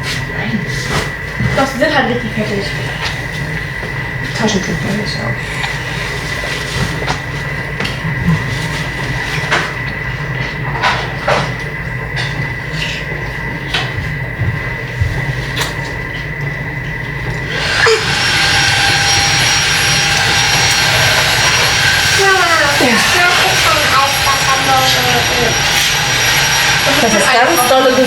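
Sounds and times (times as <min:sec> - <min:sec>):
machine whirring: 0:00.0 - 0:28.0
mechanical hum with high whine: 0:00.0 - 0:28.0.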